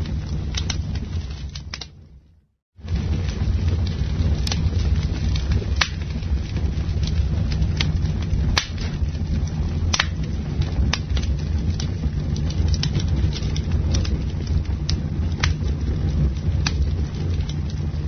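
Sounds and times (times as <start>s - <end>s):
campfire crackling and popping: 0.0s - 2.2s, 2.8s - 18.0s
fire low rumble: 0.0s - 18.0s.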